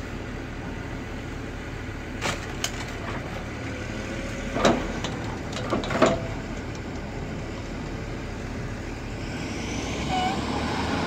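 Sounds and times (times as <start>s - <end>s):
car crusher engine and hydraulics: 0.0s - 11.0s.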